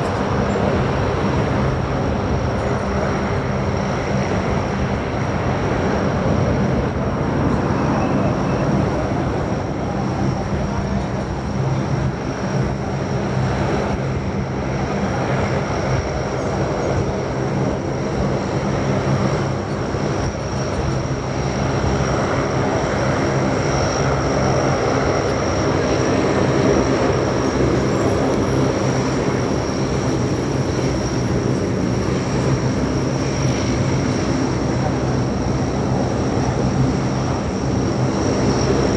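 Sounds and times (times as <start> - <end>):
aircraft engine drone: 0.0 - 38.9.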